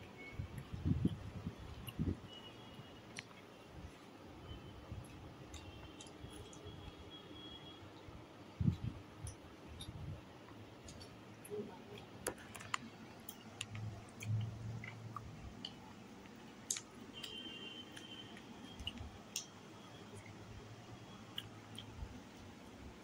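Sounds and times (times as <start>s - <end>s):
mouth clicks and smacks chewing: 0.0s - 7.5s, 8.6s - 20.4s, 21.1s - 22.1s.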